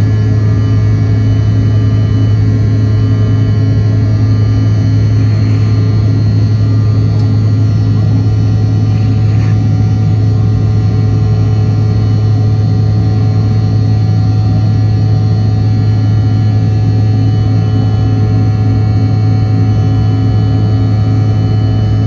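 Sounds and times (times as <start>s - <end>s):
jet engine drone in cabin: 0.0s - 22.0s.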